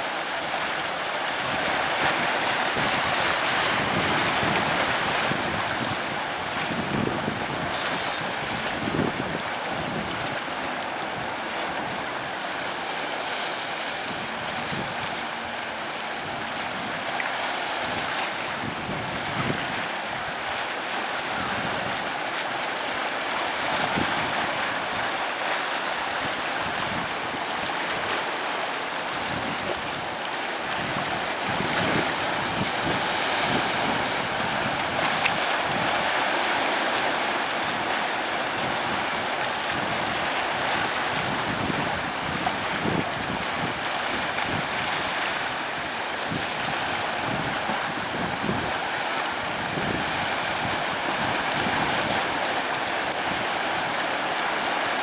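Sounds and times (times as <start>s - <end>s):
surf on sandy beach: 0.0s - 55.0s.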